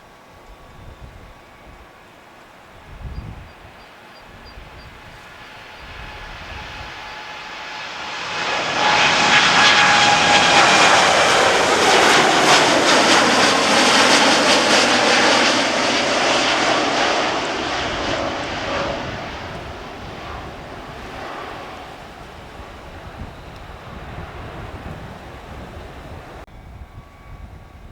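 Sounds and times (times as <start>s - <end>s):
jet airliner taking off: 0.0s - 27.9s.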